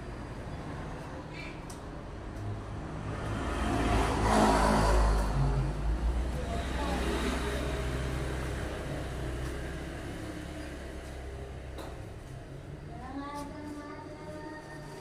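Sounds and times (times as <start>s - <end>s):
vehicle passing by: 0.0s - 12.3s.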